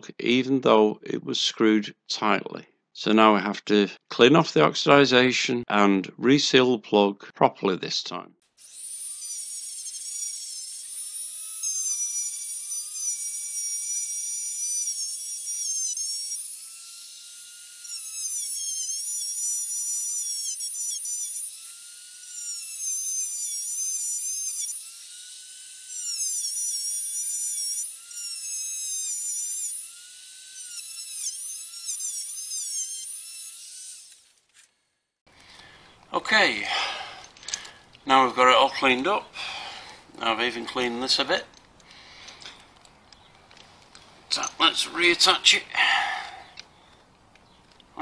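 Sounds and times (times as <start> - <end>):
rotary tool whining: 8.6 - 48.0.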